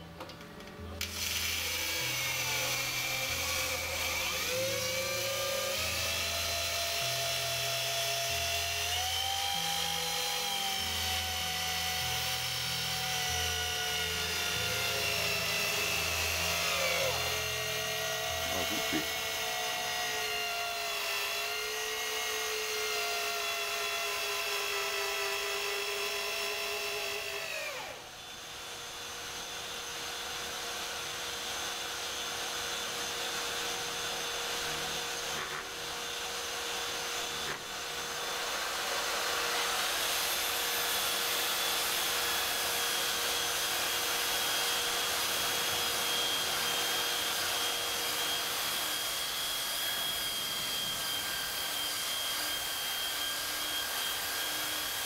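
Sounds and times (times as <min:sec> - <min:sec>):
electric drill driving screw: 0:01.0 - 0:55.0
orbital sander on wood: 0:01.1 - 0:28.4, 0:29.3 - 0:55.0.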